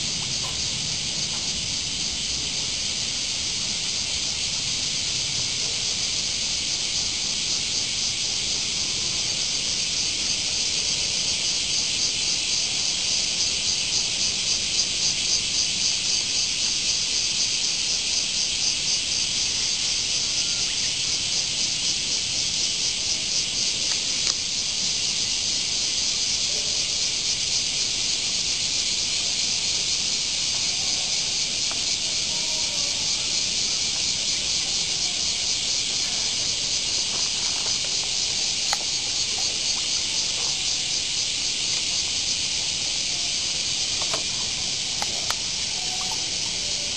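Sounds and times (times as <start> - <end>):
cicadas buzzing: 0.0 - 46.9.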